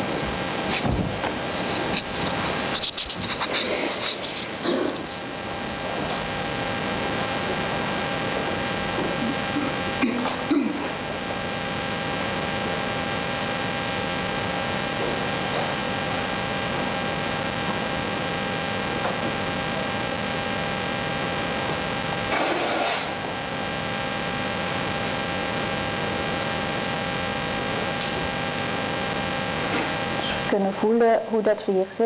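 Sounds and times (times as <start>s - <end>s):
steady hiss: 0.0s - 31.4s
faint electrical hum: 0.0s - 32.0s.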